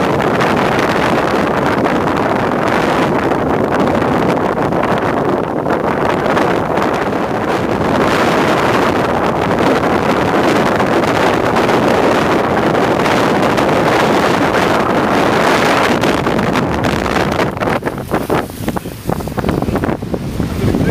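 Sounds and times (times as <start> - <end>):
strong wind buffeting microphone: 0.0 - 20.9.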